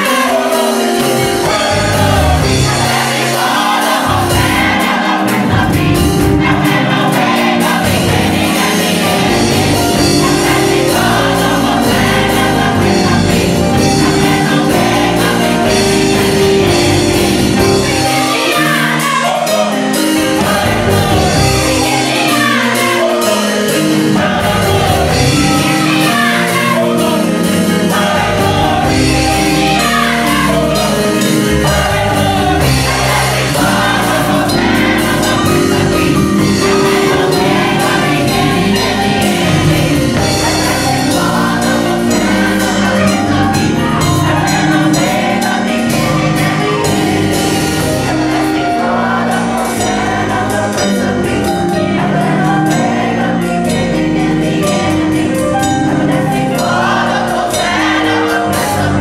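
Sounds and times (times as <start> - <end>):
gospel choir singing in harmony: 0.0 - 59.0
keyboard accompaniment: 0.0 - 59.0.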